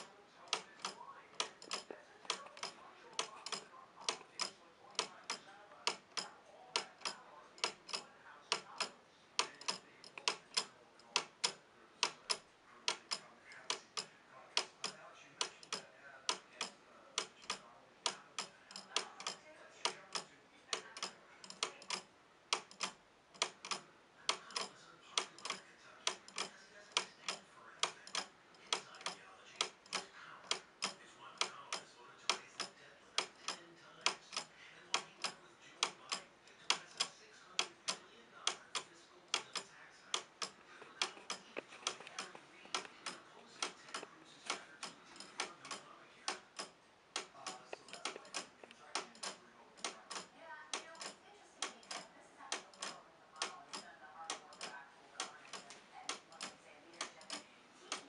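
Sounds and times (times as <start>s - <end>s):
pendulum clock ticking: 0.0s - 58.0s.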